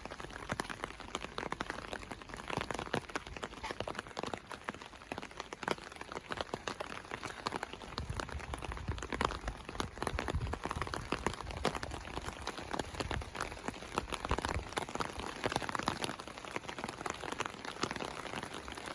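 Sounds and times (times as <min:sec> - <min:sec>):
raindrops ticking on a surface: 0:00.0 - 0:18.9
steady rain hiss: 0:00.0 - 0:18.9.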